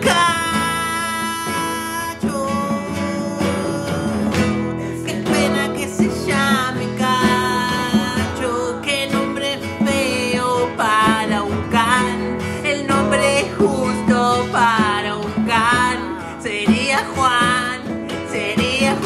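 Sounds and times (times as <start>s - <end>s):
acoustic guitars strummed: 0.0s - 19.0s
congas: 0.0s - 19.0s
person singing: 0.0s - 19.0s.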